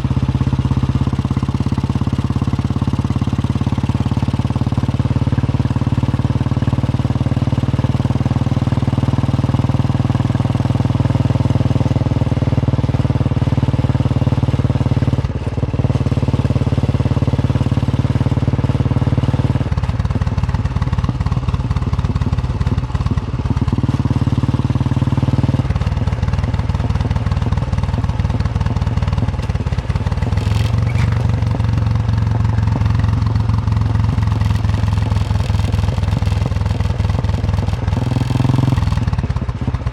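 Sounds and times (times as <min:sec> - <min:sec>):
single-cylinder motorcycle engine thumping: 0:00.1 - 0:39.9.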